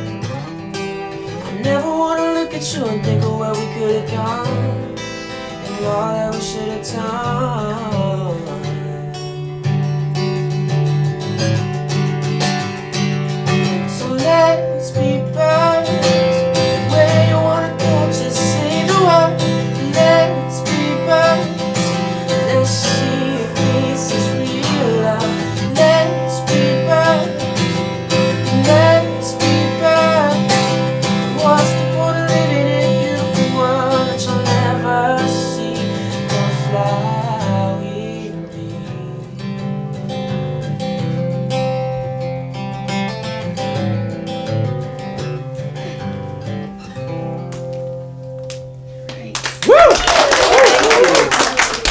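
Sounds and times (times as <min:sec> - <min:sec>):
acoustic guitar strumming: 0:00.0 - 0:49.6.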